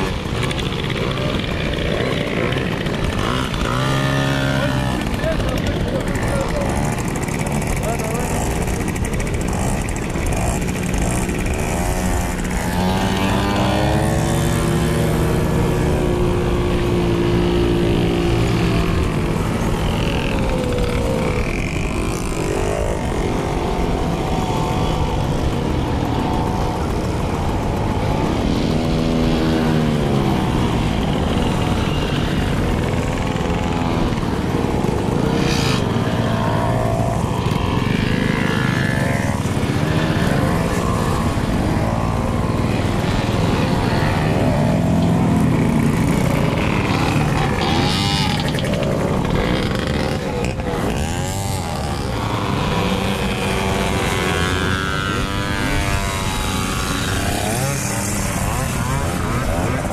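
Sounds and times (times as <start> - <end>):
moped engines revving: 0.0 - 59.9.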